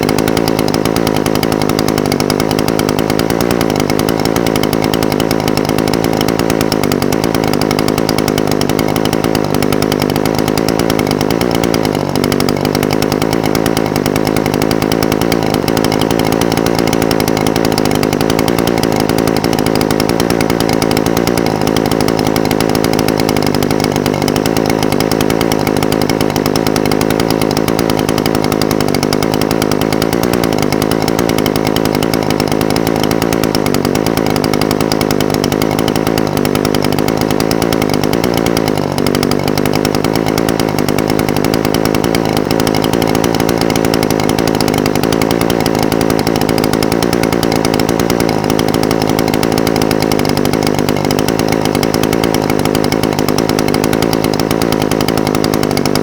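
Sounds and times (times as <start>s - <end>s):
brush cutter engine idling: 0.0s - 56.0s.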